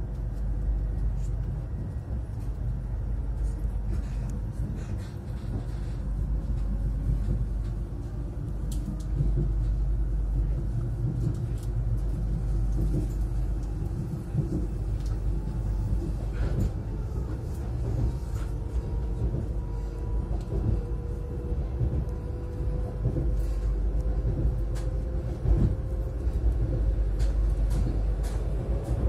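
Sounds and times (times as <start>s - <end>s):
train interior rumble: 0.0s - 29.0s.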